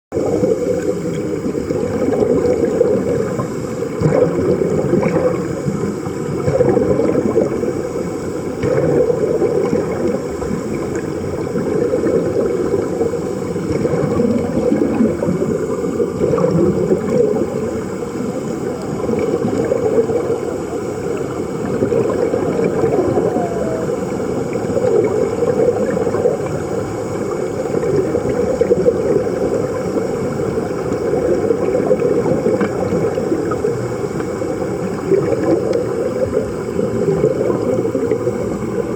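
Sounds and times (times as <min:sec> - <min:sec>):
running water: 0:00.1 - 0:38.9.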